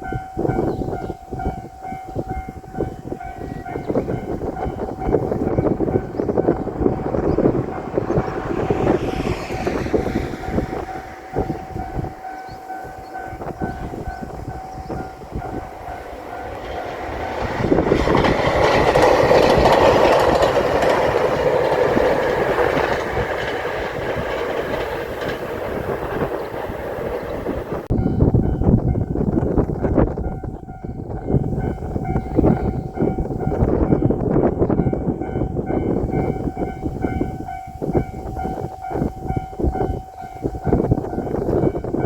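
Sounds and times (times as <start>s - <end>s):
railway crossing bell ringing: 0.0s - 9.2s, 10.0s - 42.0s
diesel train passing: 0.0s - 42.0s.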